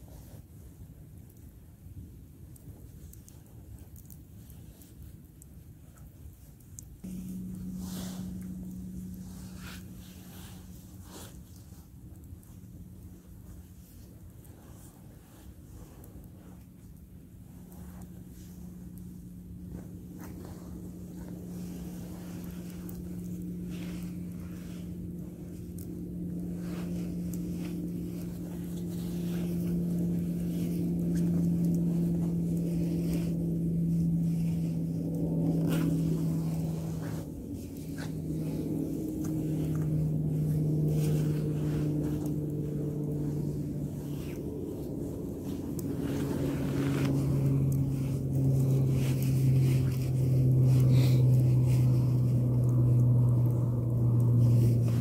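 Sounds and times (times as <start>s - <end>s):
low engine drone: 7.0s - 55.0s
clothing clicks and rustles: 8.4s - 53.2s.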